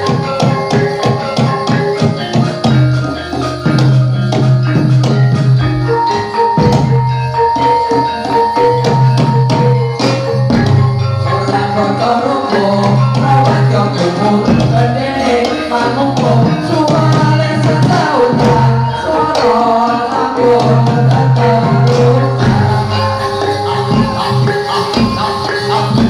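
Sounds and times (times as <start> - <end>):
drums and percussion: 0.0 - 26.0
gamelan-style melodic notes: 0.0 - 26.0.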